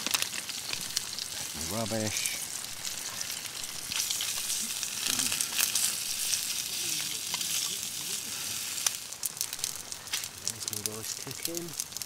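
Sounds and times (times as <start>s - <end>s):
rice sizzling in oil: 0.0s - 12.0s.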